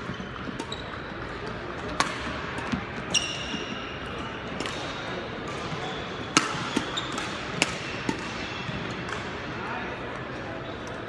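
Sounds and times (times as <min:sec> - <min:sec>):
racket hitting shuttlecock: 0:00.2 - 0:09.4.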